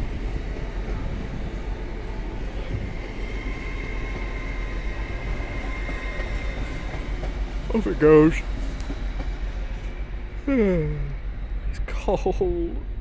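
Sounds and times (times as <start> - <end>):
train pulling out: 0.0 - 13.0.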